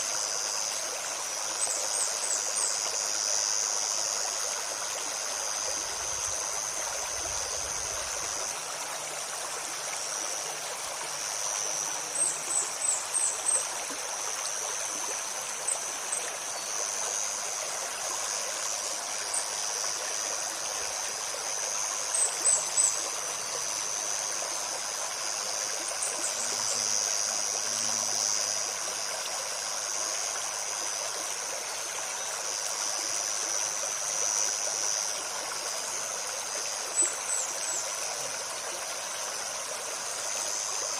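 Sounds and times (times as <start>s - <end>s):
high insect drone: 0.0s - 40.9s
stream babbling: 0.0s - 40.9s.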